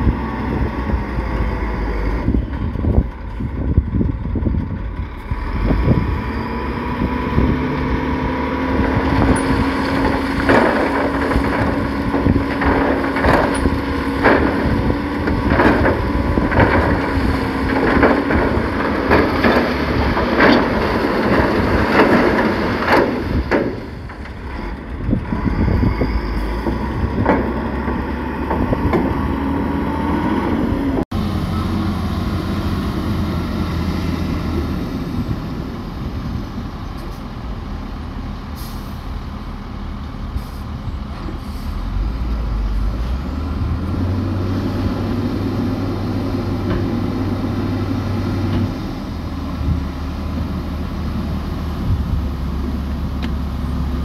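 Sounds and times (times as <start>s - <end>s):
heavy diesel machinery engines: 0.0s - 54.0s.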